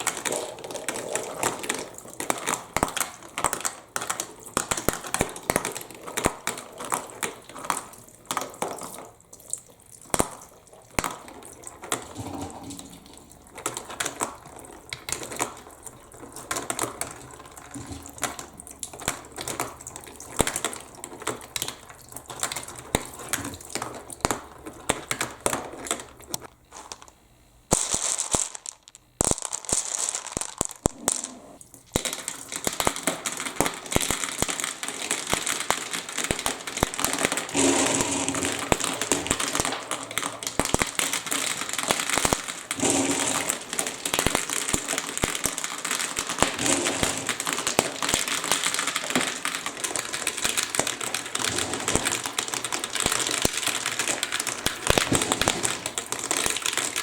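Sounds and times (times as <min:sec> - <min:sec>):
marbles clicking and clattering: 0:00.0 - 0:09.0, 0:11.0 - 0:57.0
water running down plastic course: 0:00.0 - 0:26.4, 0:31.6 - 0:57.0.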